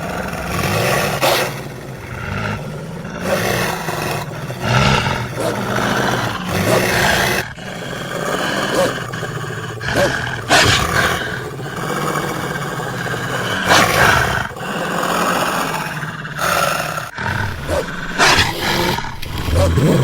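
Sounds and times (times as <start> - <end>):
wolf growling and snarling: 0.0 - 20.0.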